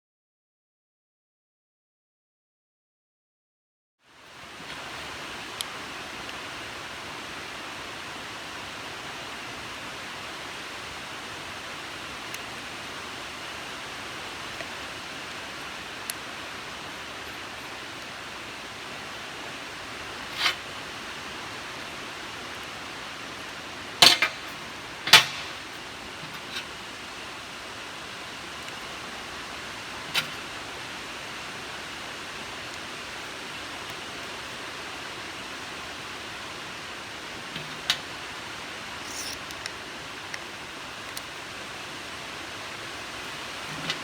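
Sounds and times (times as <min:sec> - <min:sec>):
welding arc hissing: 0:04.7 - 0:41.6.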